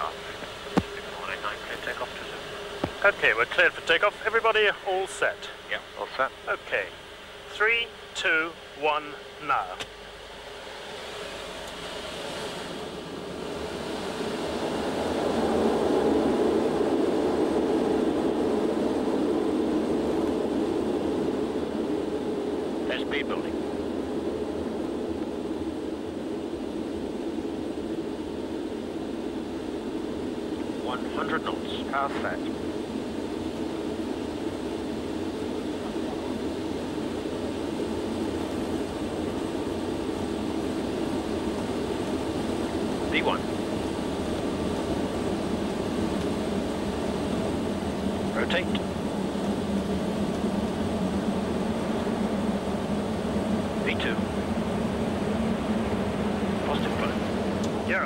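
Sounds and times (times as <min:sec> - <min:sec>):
jet engines at full power: 0:00.0 - 0:58.0
runway rumble: 0:00.0 - 0:58.0.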